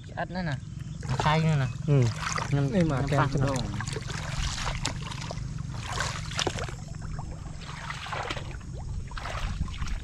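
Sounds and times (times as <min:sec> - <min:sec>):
steady low hum: 0:00.0 - 0:10.0
water splashing in a pond: 0:00.8 - 0:10.0.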